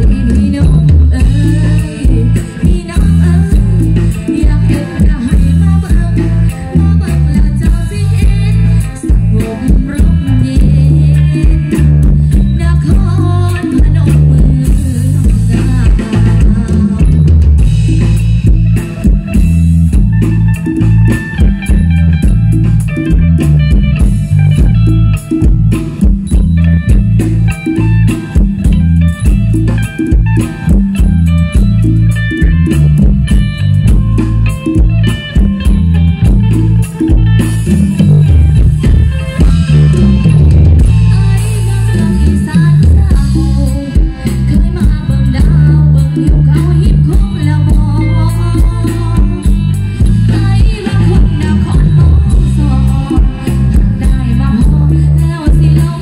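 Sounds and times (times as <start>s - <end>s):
drum beat: 0.0s - 54.9s
folk band dance music: 0.0s - 56.0s.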